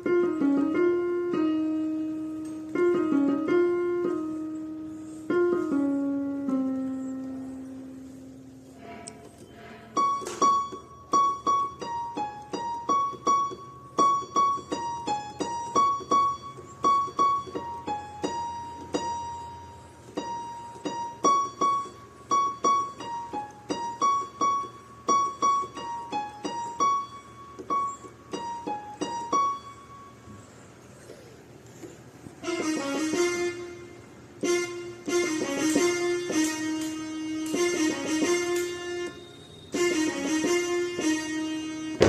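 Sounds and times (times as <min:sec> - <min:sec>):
slow solo piano melody: 0:00.0 - 0:08.7, 0:10.0 - 0:42.0.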